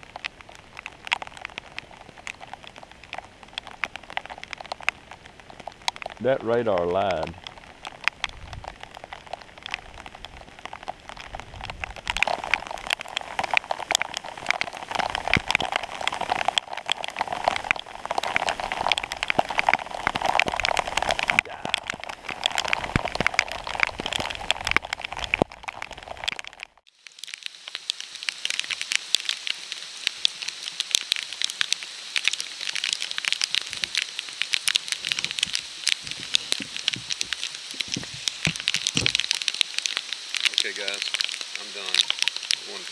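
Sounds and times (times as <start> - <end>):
heavy rain pattering: 0.0 - 42.9.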